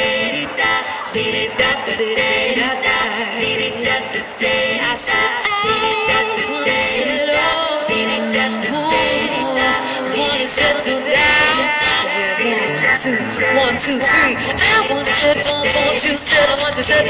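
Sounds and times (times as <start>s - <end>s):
electric bass guitar: 0.0s - 17.0s
woman singing into a microphone: 0.0s - 17.0s.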